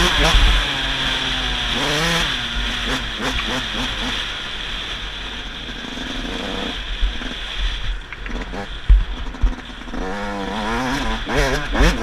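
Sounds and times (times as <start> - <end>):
dirt bike engine revving: 0.0 - 12.0
steady rushing noise: 0.0 - 12.0.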